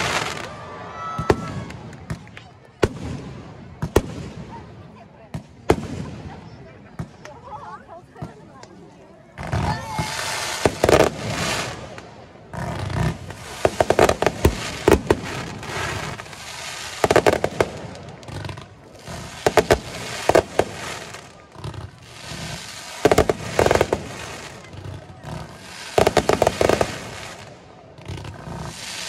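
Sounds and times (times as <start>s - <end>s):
fireworks bangs: 0.0s - 7.5s, 9.4s - 29.0s.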